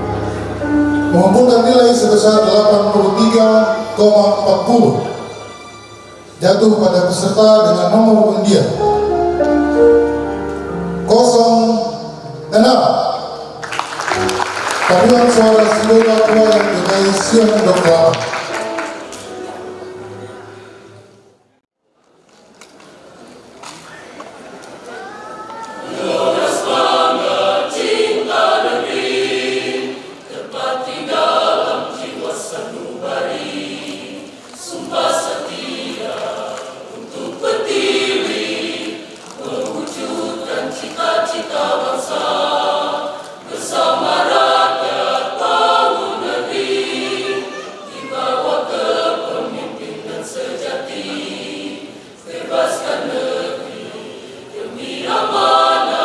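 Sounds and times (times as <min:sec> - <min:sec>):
church choir singing: 0:00.0 - 0:21.4, 0:25.8 - 0:56.0.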